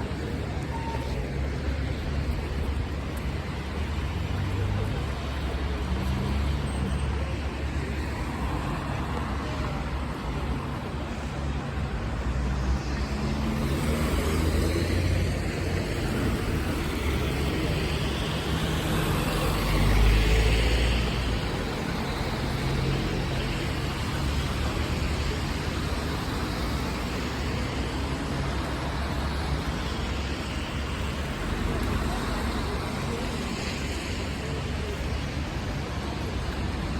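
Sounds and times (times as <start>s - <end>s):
city road traffic: 0.0s - 36.9s.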